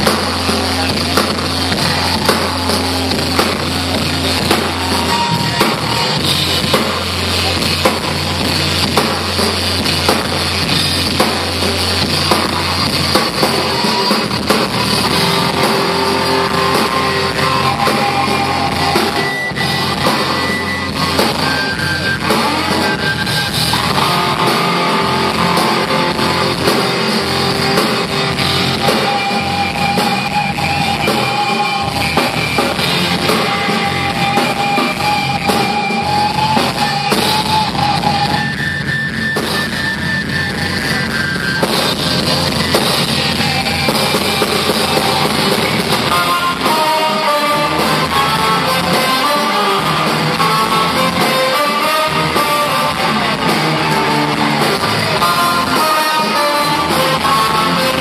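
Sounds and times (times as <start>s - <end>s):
electric guitar lead notes: 0.0s - 58.0s
live rock band playing: 0.0s - 58.0s.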